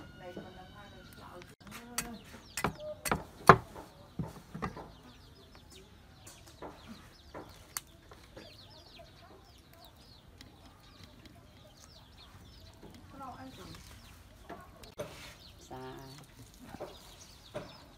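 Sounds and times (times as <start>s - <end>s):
birds chirping: 0.0s - 17.9s.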